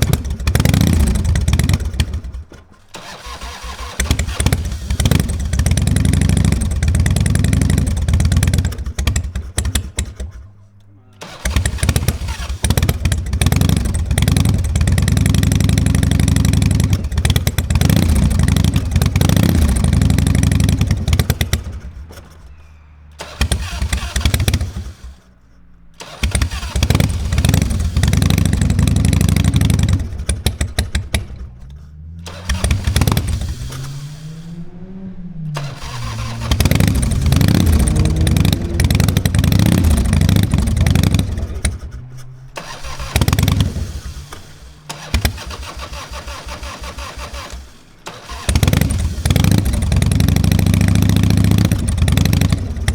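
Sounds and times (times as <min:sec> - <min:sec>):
motorcycle engine cranking on starter: 0:00.0 - 0:52.9.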